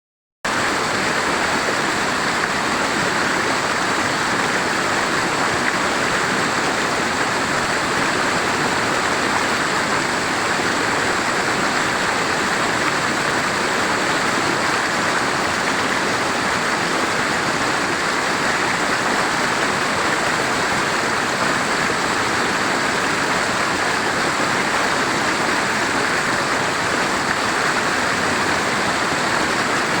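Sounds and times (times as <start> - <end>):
river rushing over rocks: 0.5 - 30.0.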